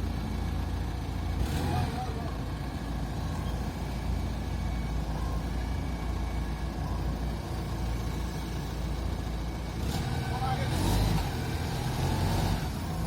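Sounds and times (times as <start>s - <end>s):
heavy vehicle engine rumbling: 0.0s - 13.0s.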